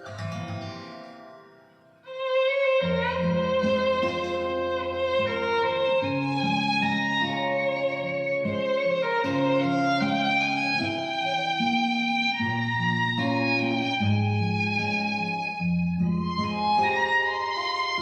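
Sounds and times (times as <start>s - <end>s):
sustained strings and guitar: 0.0s - 18.0s
bowed violin melody: 1.1s - 18.0s.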